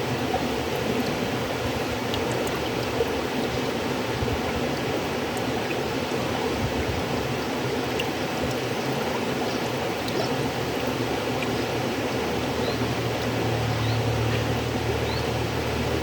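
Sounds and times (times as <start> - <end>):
river water rushing: 0.0 - 16.0
faint splashes and drips: 0.1 - 16.0.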